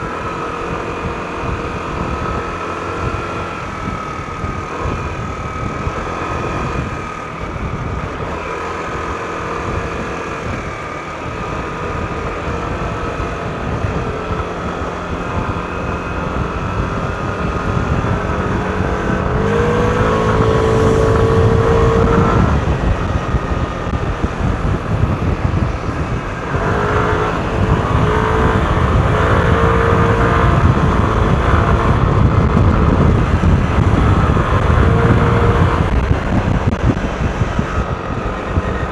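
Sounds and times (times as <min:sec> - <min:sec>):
scooter engine accelerating: 0:00.0 - 0:38.9.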